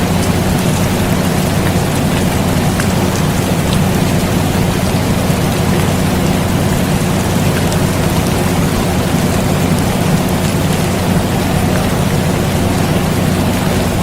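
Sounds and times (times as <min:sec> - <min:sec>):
air conditioner humming: 0:00.0 - 0:14.0
rain falling: 0:00.0 - 0:14.0
raindrop patter: 0:00.0 - 0:14.0.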